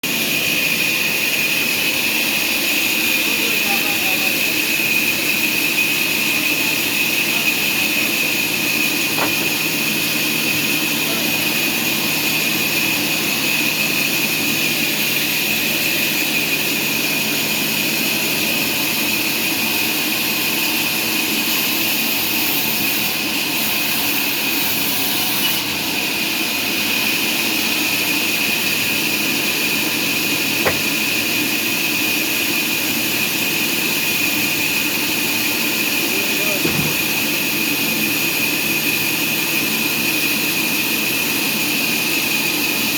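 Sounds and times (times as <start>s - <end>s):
sawmill machinery hissing: 0.1s - 42.9s.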